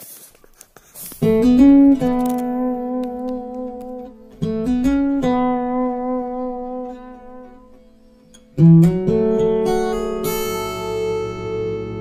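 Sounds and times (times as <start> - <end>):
acoustic guitar music: 0.4 - 12.0.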